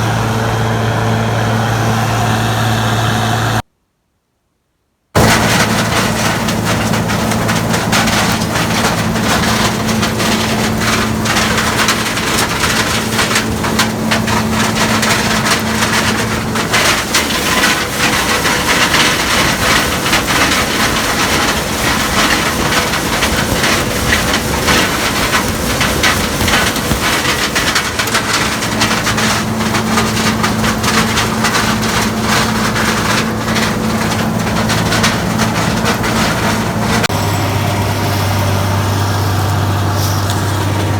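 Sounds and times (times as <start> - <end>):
combine engine hum: 0.0 - 3.6, 5.2 - 40.9
crackling of stalks being crushed: 5.2 - 40.9.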